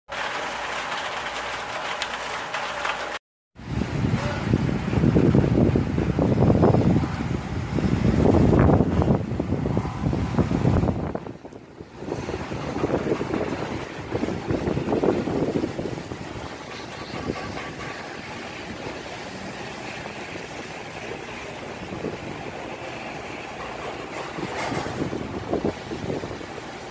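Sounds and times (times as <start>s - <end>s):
rain: 0.1s - 26.9s
gusting wind buffeting microphone: 3.6s - 26.9s.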